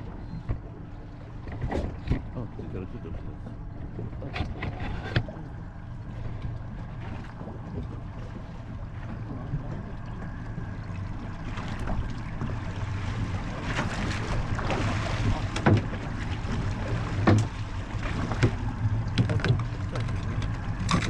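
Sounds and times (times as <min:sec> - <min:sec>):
boat engine idling: 0:00.0 - 0:21.0
water noise: 0:00.0 - 0:21.0.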